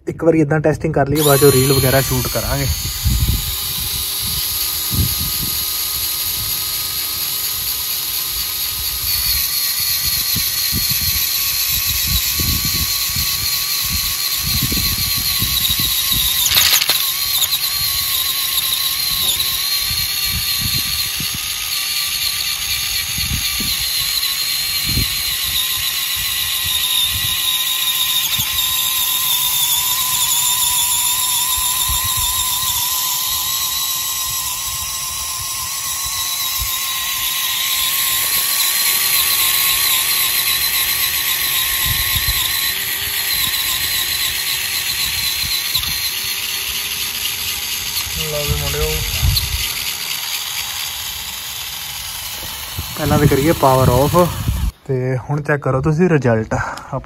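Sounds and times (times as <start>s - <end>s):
small electric motors whining: 1.0s - 54.8s.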